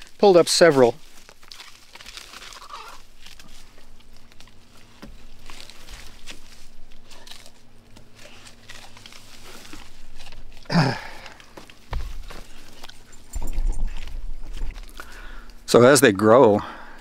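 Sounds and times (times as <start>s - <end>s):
stalks and leaves rustling: 0.0s - 17.0s.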